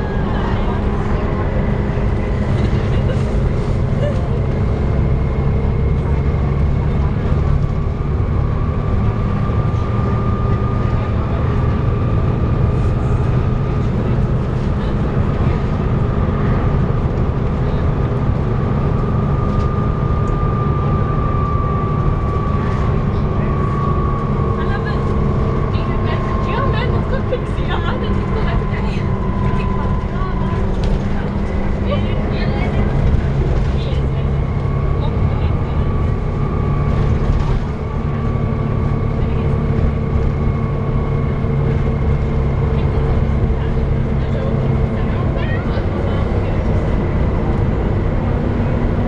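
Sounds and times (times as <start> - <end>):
bus diesel engine rumbling: 0.0 - 49.0
high engine whine: 0.0 - 49.0.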